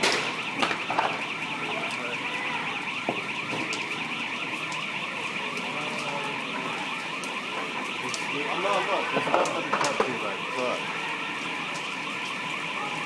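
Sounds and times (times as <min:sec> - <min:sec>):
sharp pops from fire: 0:00.0 - 0:02.0, 0:02.8 - 0:10.6, 0:11.3 - 0:12.7
electronic alarm warbling: 0:00.0 - 0:13.0.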